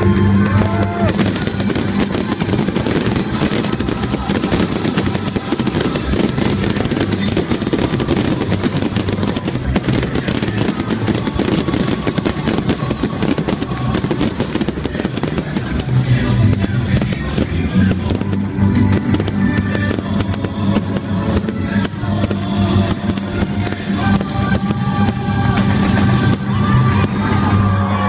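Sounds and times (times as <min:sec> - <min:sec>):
fireworks crackling and banging: 0:00.0 - 0:28.0.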